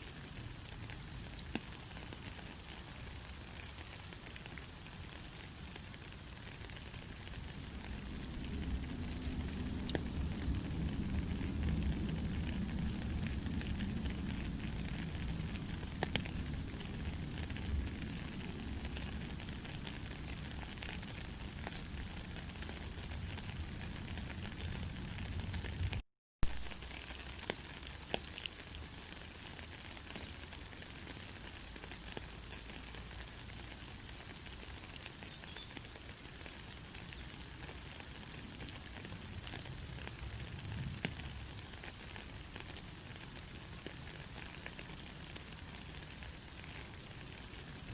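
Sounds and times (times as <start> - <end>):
faint clicks and crackles: 0.4 - 47.9.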